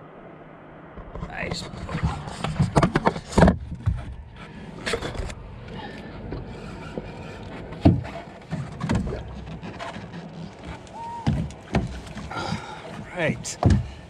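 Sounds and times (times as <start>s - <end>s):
low steady rumble: 0.0s - 14.0s
knocks and bumps on boat: 1.0s - 14.0s.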